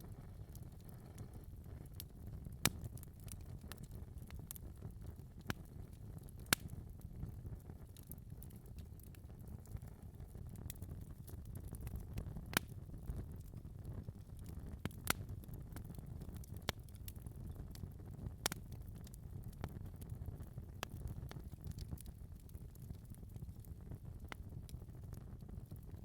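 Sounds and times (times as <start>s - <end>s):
fire crackling with pops: 0.0s - 26.0s
low rumble of flames: 0.0s - 26.0s.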